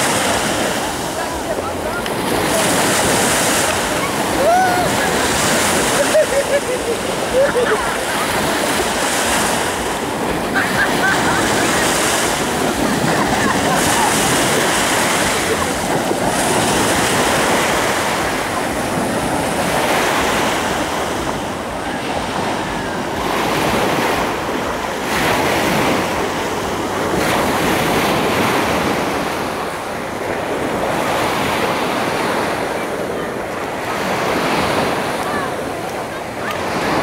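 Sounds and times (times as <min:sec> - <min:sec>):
ocean surf breaking: 0:00.0 - 0:37.0
wind buffeting microphone: 0:00.0 - 0:37.0.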